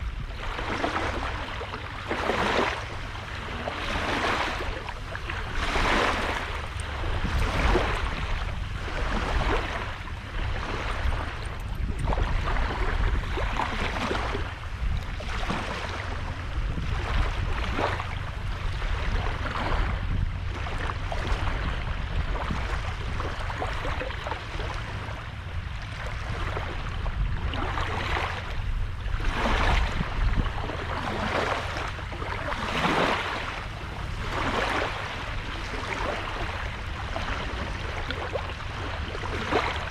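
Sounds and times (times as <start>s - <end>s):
sea waves breaking on beach: 0.0s - 39.9s
wind rumble on microphone: 0.0s - 39.9s.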